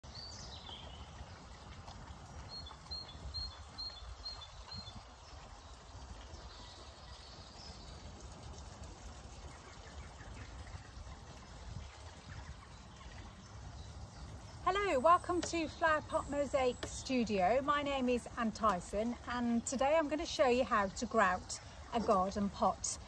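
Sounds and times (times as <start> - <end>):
birds singing: 0.0 - 1.8, 2.4 - 8.2, 9.3 - 23.0.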